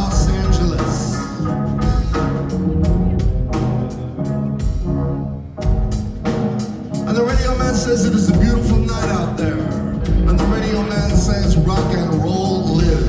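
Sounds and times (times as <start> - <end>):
drum hits: 0.0 - 4.0, 5.6 - 13.0
held pitched notes: 0.0 - 13.0
low bass line: 0.0 - 13.0.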